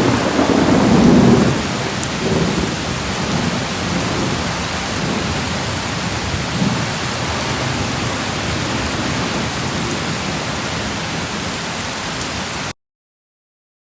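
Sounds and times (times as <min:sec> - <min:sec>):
low rumble of thunder: 0:00.0 - 0:11.6
heavy rain: 0:00.0 - 0:12.8.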